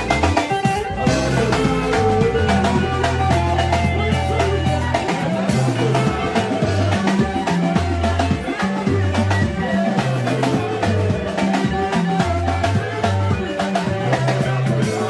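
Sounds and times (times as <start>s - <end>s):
bass guitar line: 0.0s - 15.0s
drum kit beat: 0.0s - 15.0s
electric guitar: 0.0s - 15.0s.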